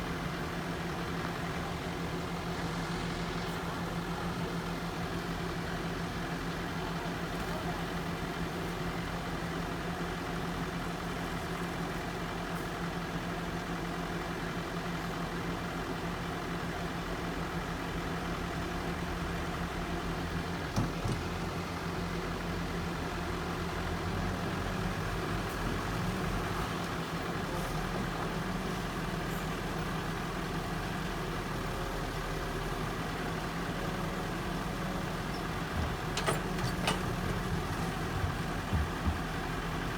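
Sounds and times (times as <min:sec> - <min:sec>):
heavy machine diesel engine: 0:00.0 - 0:39.9.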